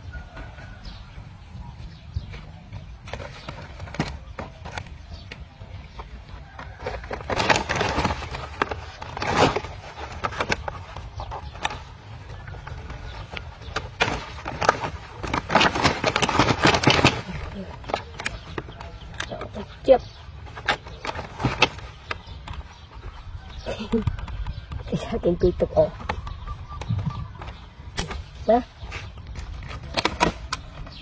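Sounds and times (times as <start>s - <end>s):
dry stalks knocking and scraping: 1.8s - 31.0s.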